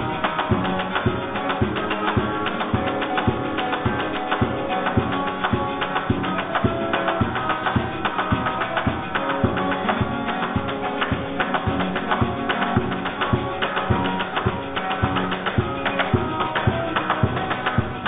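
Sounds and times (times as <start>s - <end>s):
percussive beat: 0.0s - 18.0s.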